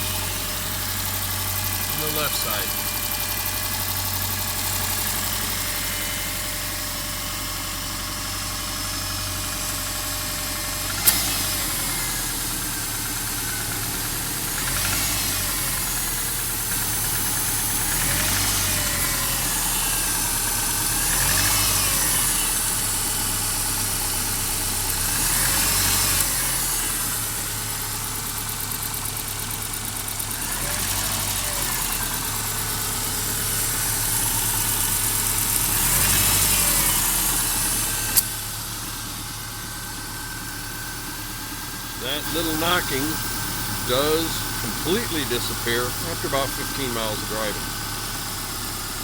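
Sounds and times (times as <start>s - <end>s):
car engine idling with knocking: 0.0s - 49.0s.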